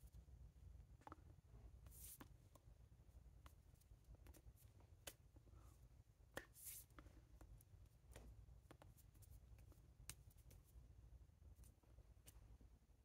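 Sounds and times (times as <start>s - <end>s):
faint low room hum: 0.0s - 13.0s.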